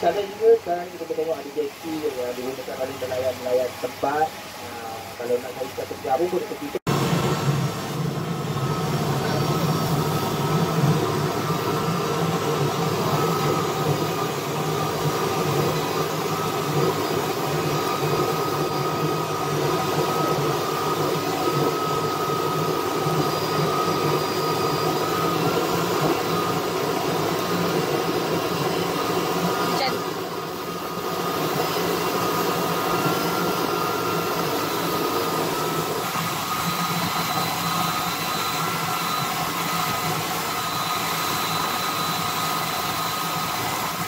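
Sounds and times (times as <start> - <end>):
boat engine drone: 0.0 - 44.0.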